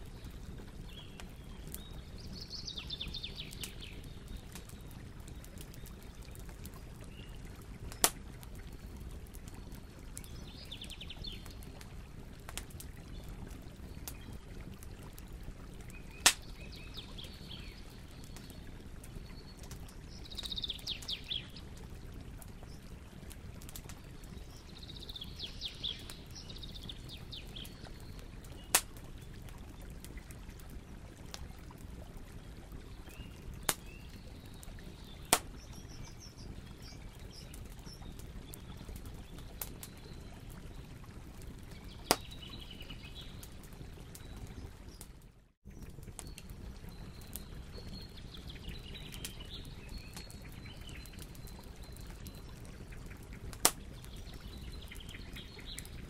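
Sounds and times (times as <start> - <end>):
bonfire burning: 0.0 - 56.0
wood popping in fire: 0.0 - 56.0.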